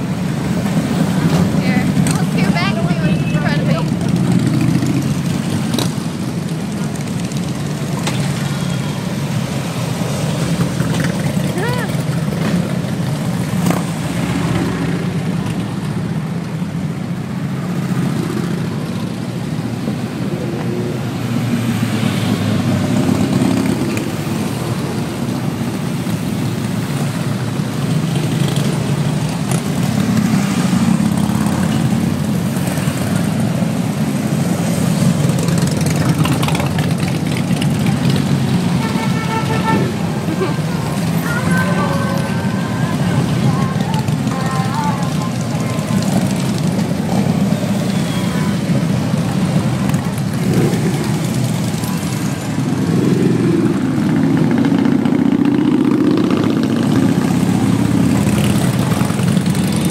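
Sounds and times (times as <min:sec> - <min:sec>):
motorcycles riding past: 0:00.0 - 0:59.9.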